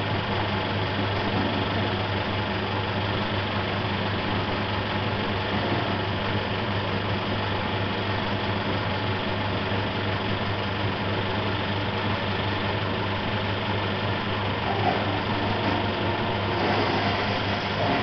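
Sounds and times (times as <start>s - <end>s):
film projector whirring: 0.0s - 18.0s.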